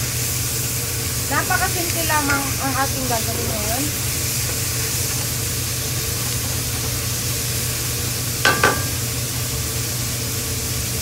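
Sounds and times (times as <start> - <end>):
meat sizzling in a wok: 0.0 - 11.0.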